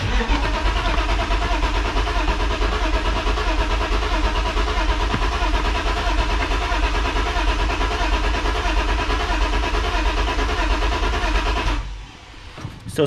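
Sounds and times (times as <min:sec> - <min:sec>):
car engine cranking: 0:00.0 - 0:13.0
fuel pump running: 0:00.0 - 0:13.0.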